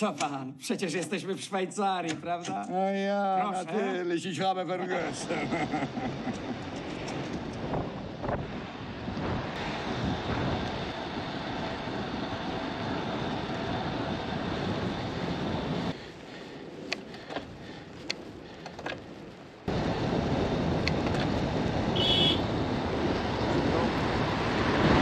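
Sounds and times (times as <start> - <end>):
wind and road noise: 1.8 - 25.0.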